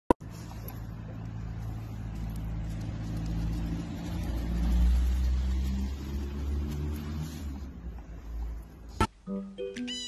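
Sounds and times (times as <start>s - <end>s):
vehicle engine running: 0.2s - 9.0s.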